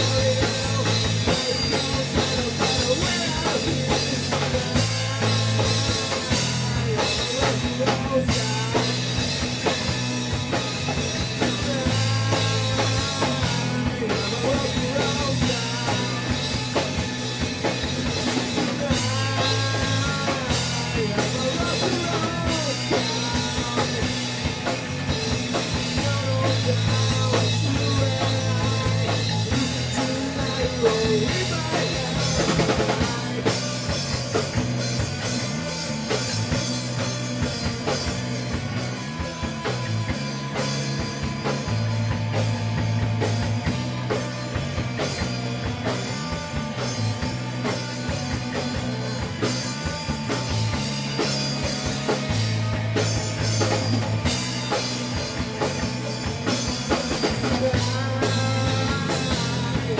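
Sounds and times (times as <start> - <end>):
drum kit beat: 0.0 - 59.9
low bass notes: 0.0 - 59.9
rock band playing live: 0.0 - 59.9.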